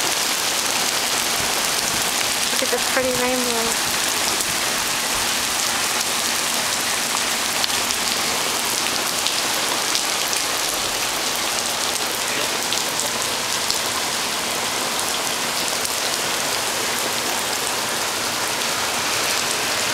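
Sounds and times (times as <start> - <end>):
rain hiss: 0.0 - 19.9.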